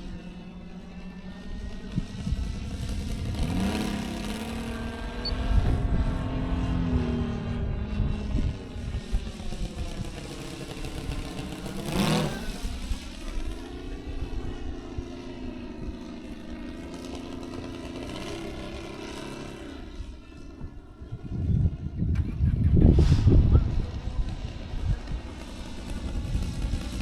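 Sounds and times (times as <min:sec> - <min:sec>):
model plane engine drone passing: 0:00.0 - 0:27.0.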